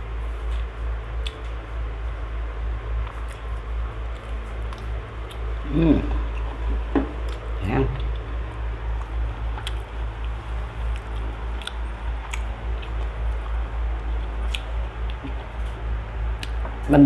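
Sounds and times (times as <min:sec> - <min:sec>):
close-up chewing: 0:00.3 - 0:01.6, 0:03.0 - 0:16.8.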